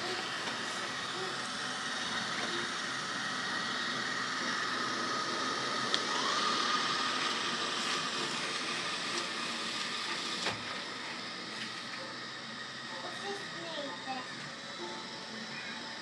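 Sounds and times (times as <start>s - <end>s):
robot vacuum whirring: 0.0s - 16.0s.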